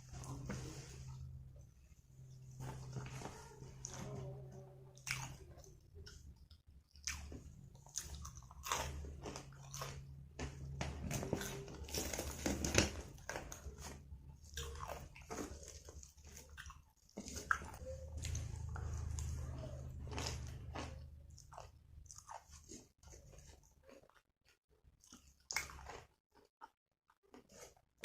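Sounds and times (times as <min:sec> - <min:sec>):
chewing crunchy food: 0:04.9 - 0:28.0.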